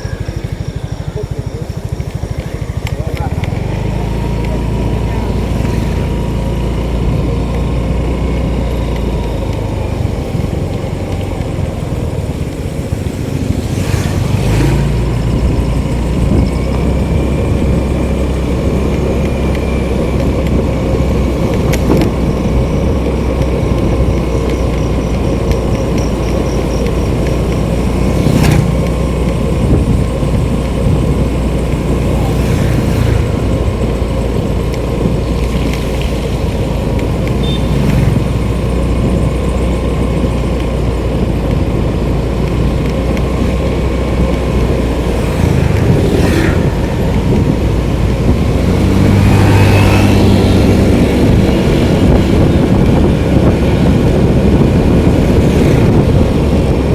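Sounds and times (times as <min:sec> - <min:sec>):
vehicle engine and road noise: 0:00.0 - 0:56.9.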